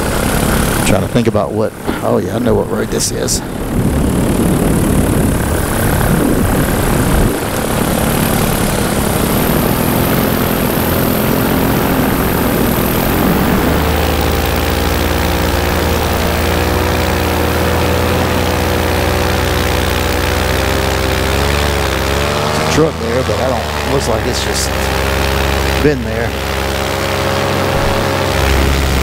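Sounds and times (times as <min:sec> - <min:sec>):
paramotor engine and propeller: 0:00.0 - 0:29.0.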